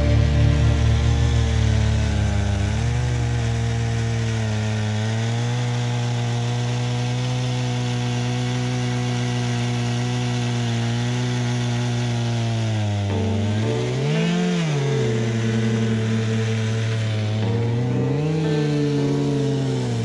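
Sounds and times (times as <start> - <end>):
chainsaw cutting through log: 0.0 - 20.0.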